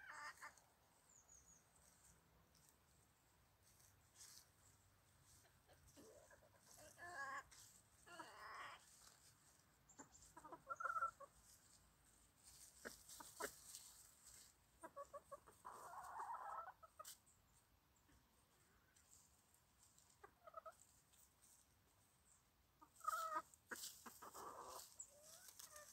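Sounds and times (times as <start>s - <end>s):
chickens clucking: 0.0s - 1.0s, 1.6s - 25.9s.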